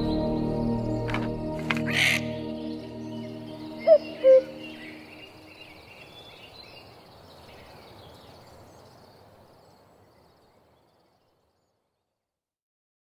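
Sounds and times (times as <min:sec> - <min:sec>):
birds chirping: 0:00.0 - 0:11.8
outdoor background noise: 0:01.0 - 0:12.5.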